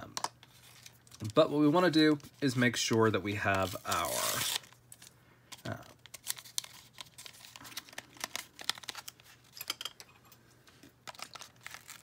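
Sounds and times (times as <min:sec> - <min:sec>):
foil wrapper crinkling and tearing: 0:00.6 - 0:09.5, 0:11.0 - 0:12.0.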